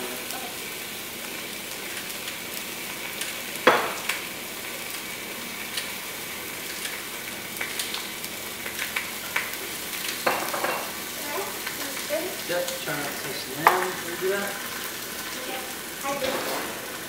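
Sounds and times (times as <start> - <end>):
onions sizzling in a pot: 0.0 - 17.0.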